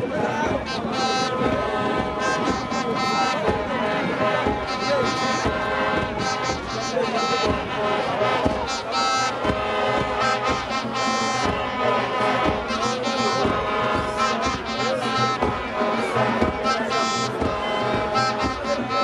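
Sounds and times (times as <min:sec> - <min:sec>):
drum hits: 0:00.0 - 0:19.0
brass horns holding notes: 0:00.4 - 0:19.0.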